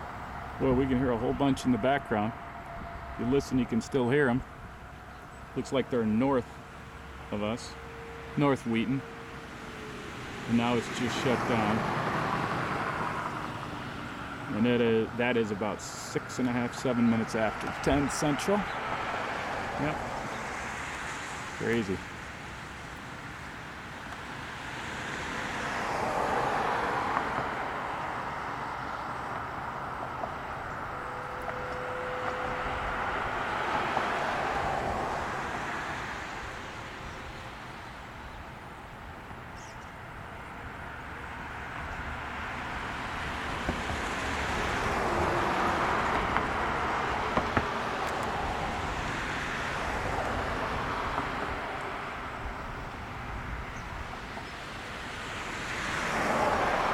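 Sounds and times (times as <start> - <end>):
road traffic passing: 0.0 - 56.9.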